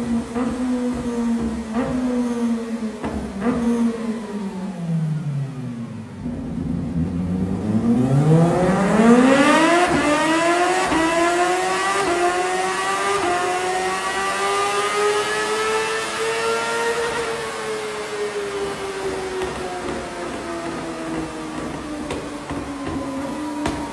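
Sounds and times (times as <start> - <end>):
motorcycle accelerating and upshifting: 0.0 - 23.9.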